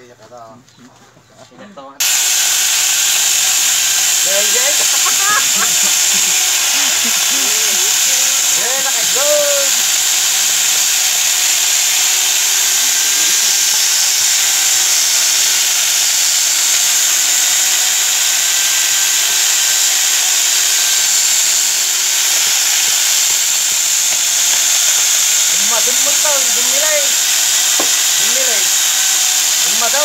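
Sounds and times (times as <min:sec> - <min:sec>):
chainsaw cutting log: 0:02.0 - 0:30.0
high-pitched whine: 0:02.0 - 0:30.0.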